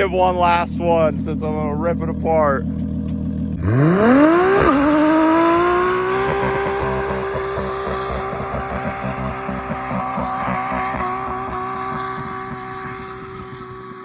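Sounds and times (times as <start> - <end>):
car engine revving hard: 0.4 - 14.0.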